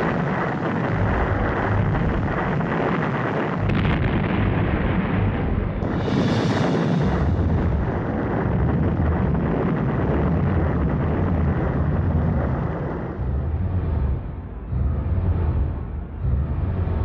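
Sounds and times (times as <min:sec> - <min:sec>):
rocket engine roar: 0:00.0 - 0:17.0.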